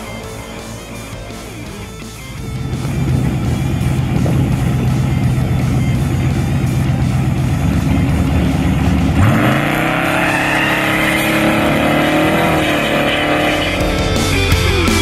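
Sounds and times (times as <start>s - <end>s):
pickup engine rumbling and revving: 0.0s - 15.0s.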